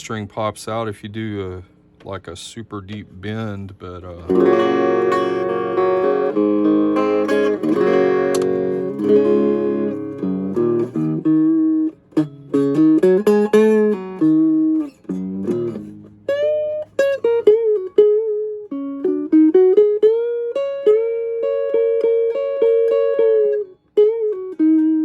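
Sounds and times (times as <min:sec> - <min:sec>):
clean electric guitar: 0:02.8 - 0:25.0.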